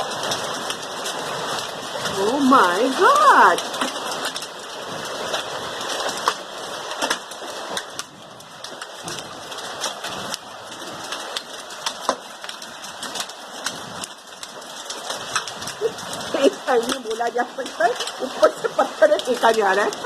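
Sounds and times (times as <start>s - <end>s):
hailstones striking hard surfaces: 0.0s - 20.0s
heavy rain hiss: 0.0s - 20.0s.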